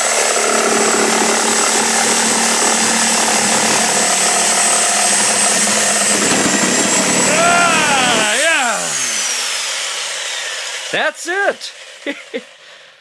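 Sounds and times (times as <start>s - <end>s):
power saw cutting: 0.0s - 12.1s.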